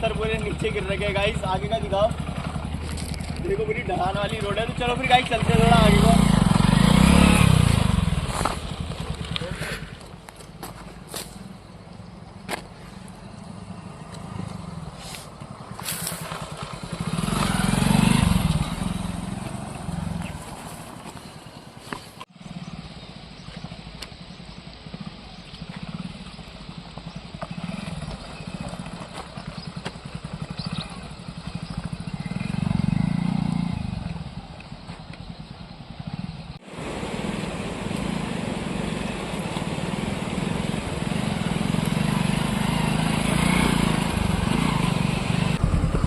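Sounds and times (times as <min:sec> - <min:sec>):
motorcycle engine running: 0:00.0 - 0:10.7, 0:13.0 - 0:21.2, 0:22.3 - 0:46.0.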